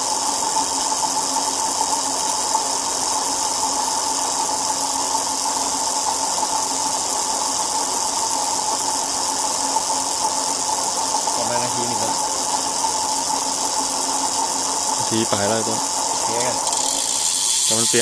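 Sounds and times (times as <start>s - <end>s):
motor humming and whining: 0.0s - 18.0s.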